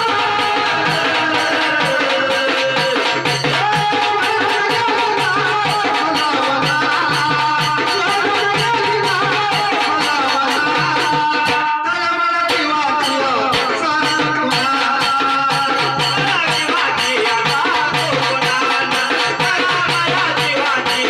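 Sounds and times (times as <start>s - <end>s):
steady drum rhythm: 0.0s - 11.8s, 12.4s - 21.0s.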